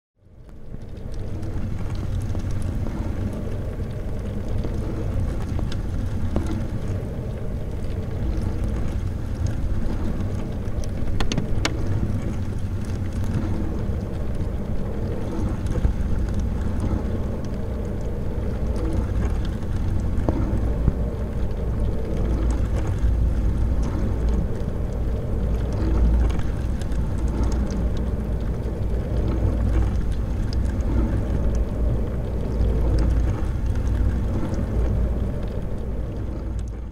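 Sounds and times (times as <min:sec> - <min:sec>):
wash water swishing: 0:00.6 - 0:36.9.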